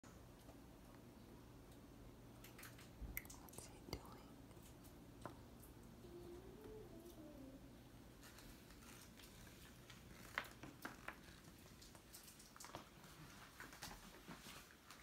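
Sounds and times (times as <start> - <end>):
faint clicks and rustles: 0.1 - 7.5, 8.1 - 15.0.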